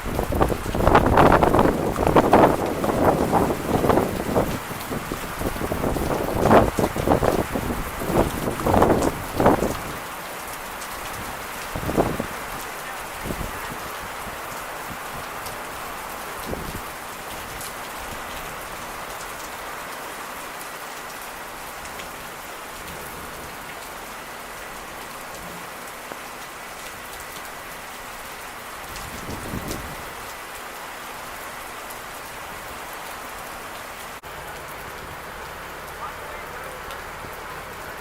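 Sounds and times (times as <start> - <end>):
raindrops ticking: 0.0 - 30.7, 33.0 - 38.0
steady rain falling: 0.0 - 38.0.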